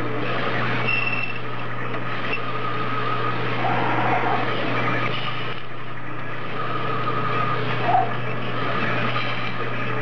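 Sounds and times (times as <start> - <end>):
faint steady whine: 0.0 - 10.0
low hum: 0.0 - 10.0
milling machine cutting metal: 0.0 - 10.0.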